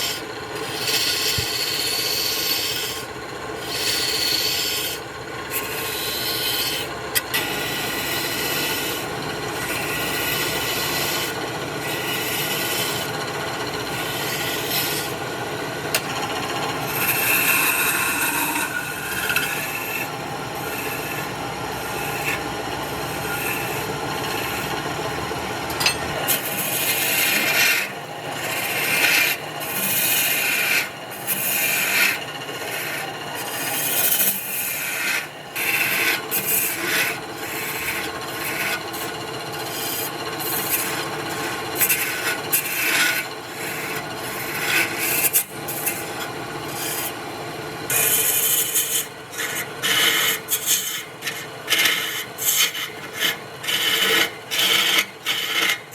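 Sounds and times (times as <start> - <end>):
tool scraping spinning wood: 0.0 - 55.9
wood lathe motor hum: 0.0 - 55.9.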